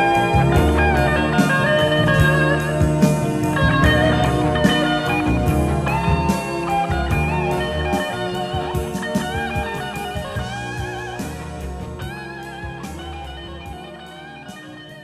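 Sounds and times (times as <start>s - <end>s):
electric guitar bent notes: 0.0s - 15.0s.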